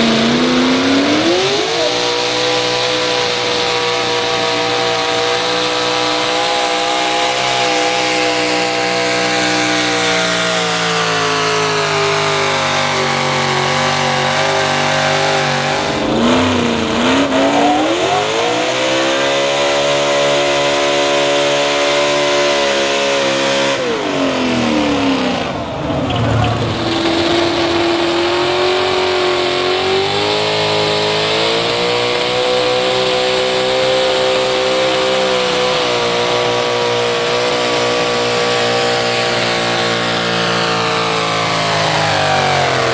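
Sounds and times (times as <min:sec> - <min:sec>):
pulling vehicle engines revving: 0:00.0 - 0:42.9.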